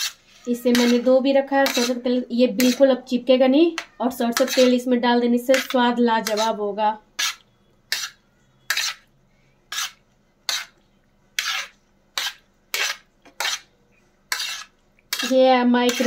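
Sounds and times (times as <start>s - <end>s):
spoon scraping a plate: 0.0s - 3.1s, 3.7s - 6.6s, 7.2s - 9.1s, 9.7s - 10.8s, 11.4s - 13.7s, 14.3s - 16.0s.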